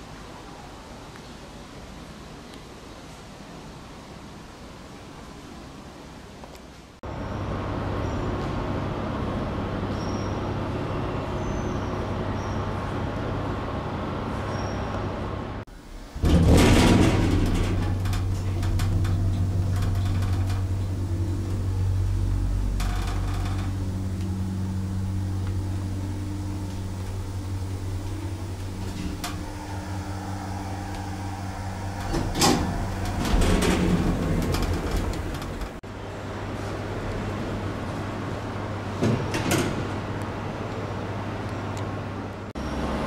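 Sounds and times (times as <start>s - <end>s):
train electrical hum: 0.0s - 43.0s.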